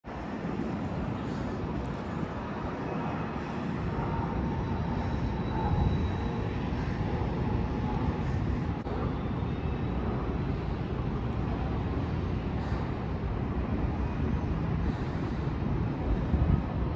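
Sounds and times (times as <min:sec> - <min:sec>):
distant traffic: 0:00.0 - 0:16.9
machinery hum: 0:00.1 - 0:16.9.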